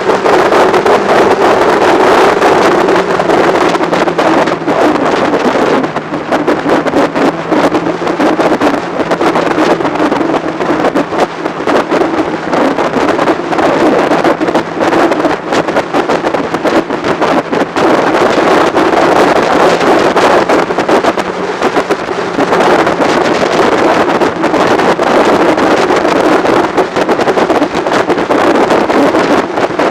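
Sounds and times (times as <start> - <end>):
motorcycle engine hum: 0.0 - 29.9
wind buffeting microphone: 0.0 - 29.9.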